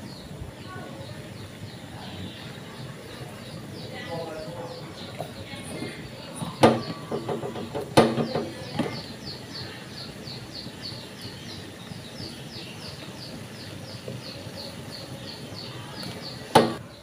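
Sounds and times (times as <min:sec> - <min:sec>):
low steady background noise: 0:00.0 - 0:17.0
small bird chirping: 0:00.0 - 0:17.0.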